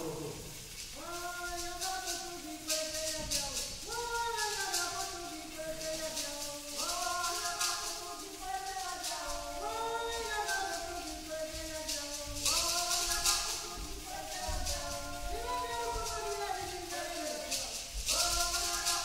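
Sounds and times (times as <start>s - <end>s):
opera voices singing: 0.0s - 19.0s
shaken percussion rattle: 0.0s - 19.0s.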